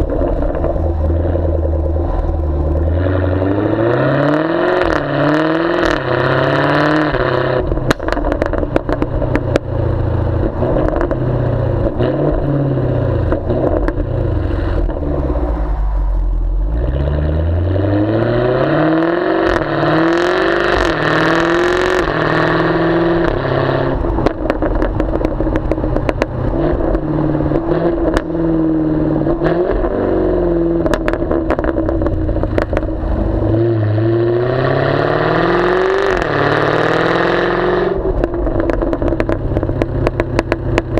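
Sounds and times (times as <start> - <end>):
exhaust pops and crackles: 0.0 - 16.7, 19.3 - 33.6, 37.9 - 40.9
car engine revving: 0.0 - 40.9.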